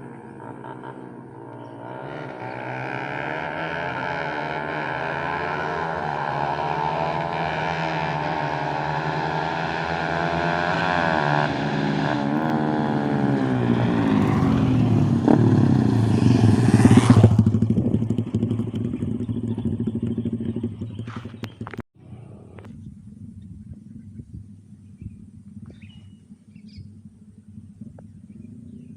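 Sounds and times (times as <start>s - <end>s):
racing motorcycle engines: 0.0s - 28.9s.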